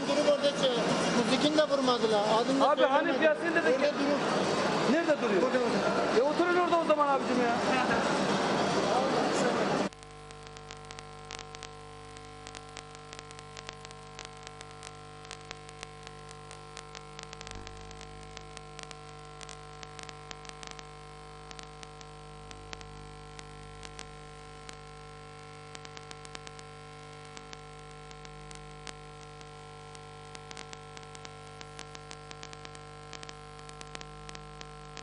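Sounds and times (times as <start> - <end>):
static crackling clicks: 0.0 - 5.6, 6.2 - 35.0
electrical hum: 0.0 - 35.0.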